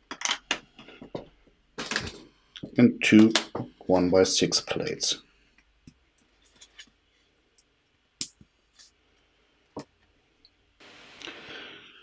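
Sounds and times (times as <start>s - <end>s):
faint steady hiss: 2.2s - 12.0s.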